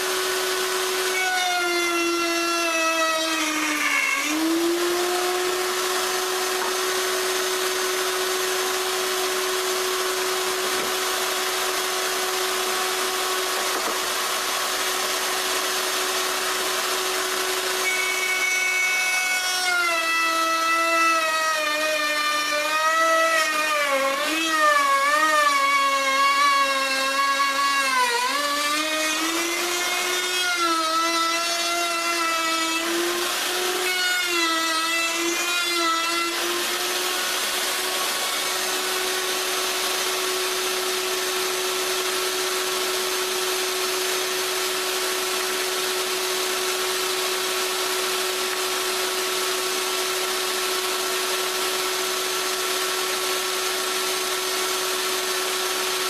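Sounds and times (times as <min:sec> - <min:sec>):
electric router whining: 0:00.0 - 0:56.0.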